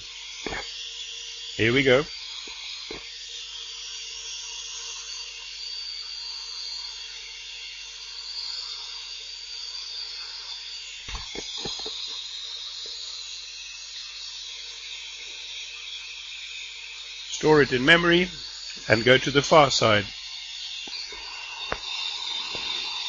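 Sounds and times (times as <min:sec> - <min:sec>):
electric mixer whining: 0:00.0 - 0:23.0
faint steady hum: 0:00.0 - 0:23.0.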